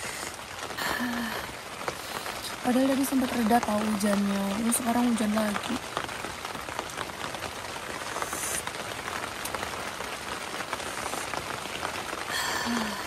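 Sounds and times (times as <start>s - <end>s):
rain falling on a tent: 0.0s - 13.0s.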